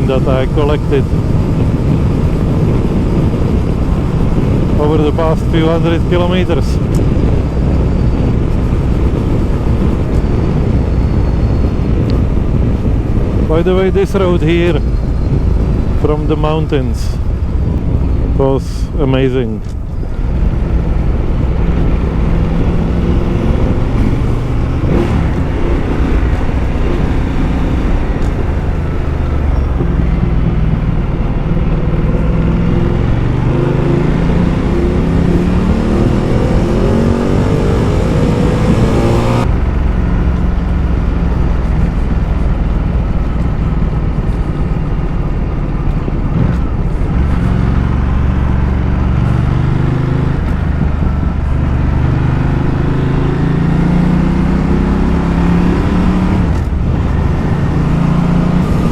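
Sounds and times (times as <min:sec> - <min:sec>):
motorcycle engine accelerating: 0:00.0 - 0:58.9
riding wind rushing: 0:00.0 - 0:58.9.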